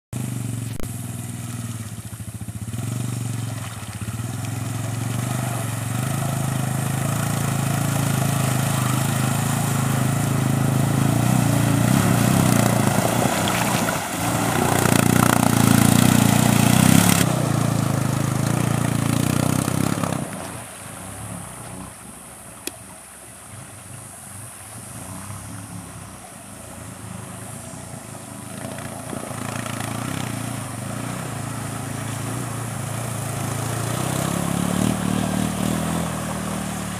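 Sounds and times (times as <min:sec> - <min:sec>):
quad bike engines revving: 0:00.2 - 0:22.0, 0:24.8 - 0:36.9
rushing water hiss: 0:00.2 - 0:36.9.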